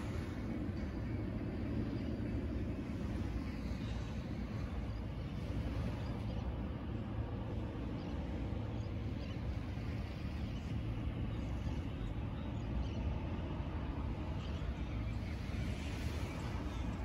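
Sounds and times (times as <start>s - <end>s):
faint beach ambience hiss: 0.0s - 17.0s
wind buffeting microphone: 0.0s - 17.0s.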